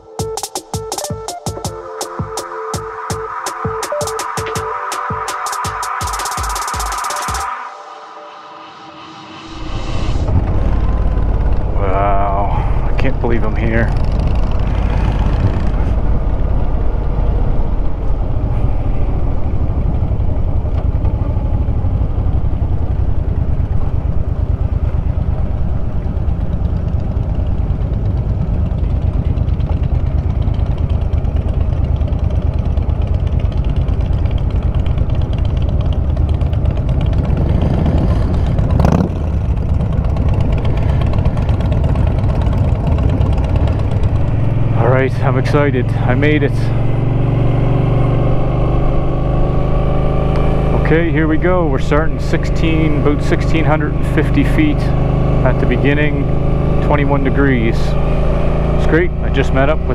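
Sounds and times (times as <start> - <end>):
motorcycle engine rumbling: 7.7 - 59.9.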